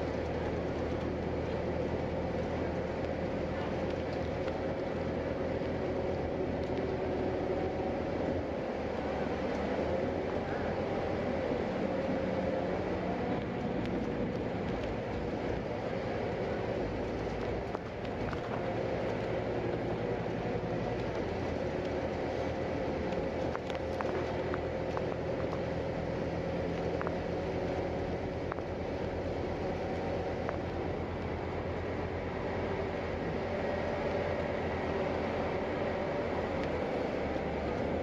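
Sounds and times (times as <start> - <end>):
bus engine drone: 0.0 - 38.0
road and tyre noise: 0.0 - 38.0.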